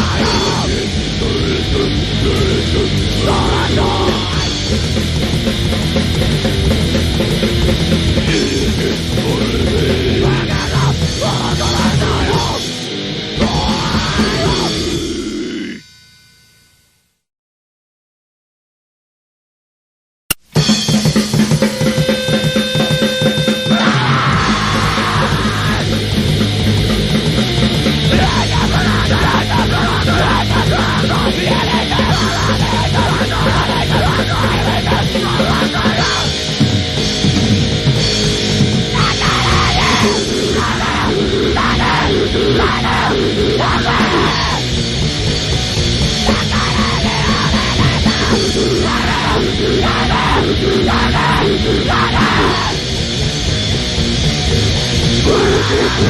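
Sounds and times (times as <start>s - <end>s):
grindcore music: 0.0s - 15.8s, 20.5s - 56.0s
yelled vocals: 0.0s - 15.8s, 22.0s - 56.0s
distorted guitar and drums: 0.0s - 16.0s, 20.3s - 56.0s.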